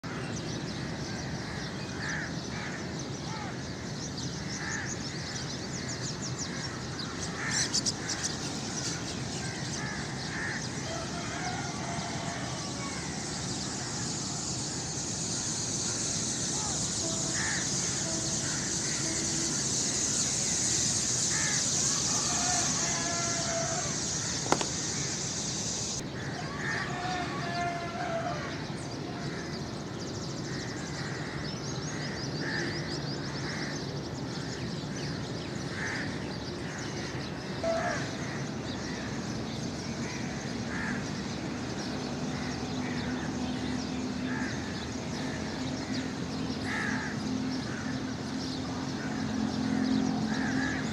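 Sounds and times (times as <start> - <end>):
steady high hiss: 0.1 - 50.9
crows cawing: 1.4 - 3.7, 4.5 - 28.6, 30.5 - 33.8, 35.7 - 39.2, 40.0 - 41.3, 42.3 - 50.9.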